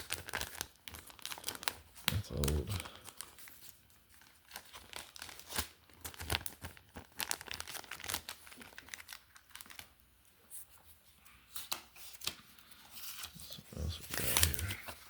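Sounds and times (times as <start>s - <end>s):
packaging crinkling and tearing: 0.0s - 10.0s, 11.5s - 15.0s.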